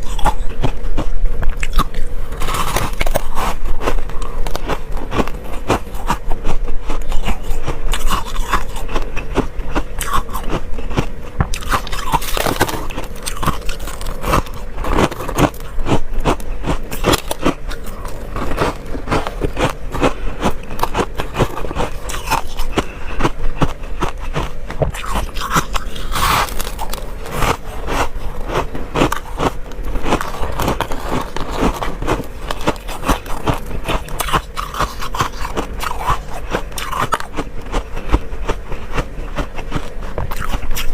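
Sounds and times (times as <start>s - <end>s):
faint steady hum: 0.0s - 40.9s
frost crunching while chewed: 0.0s - 40.9s.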